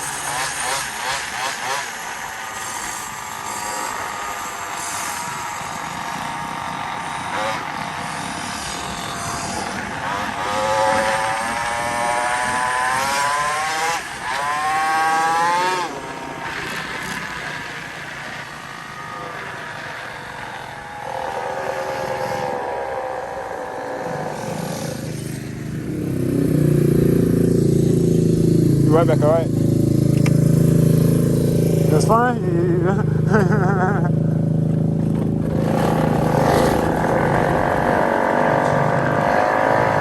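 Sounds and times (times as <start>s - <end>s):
deep engine close by: 0.0s - 40.0s
small motorbike engines revving: 0.0s - 40.0s.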